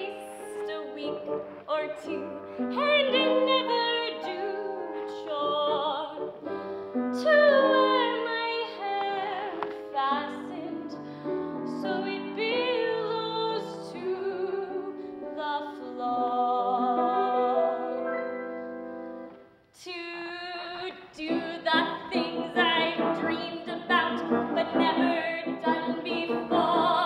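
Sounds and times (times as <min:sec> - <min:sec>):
woman singing: 0:00.0 - 0:06.4, 0:07.2 - 0:18.0, 0:19.8 - 0:27.0
piano accompaniment: 0:00.0 - 0:19.6, 0:21.2 - 0:27.0.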